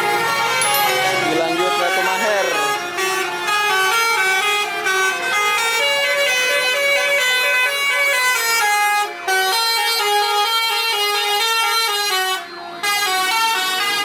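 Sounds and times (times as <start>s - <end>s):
bus musical horns: 0.0s - 14.0s.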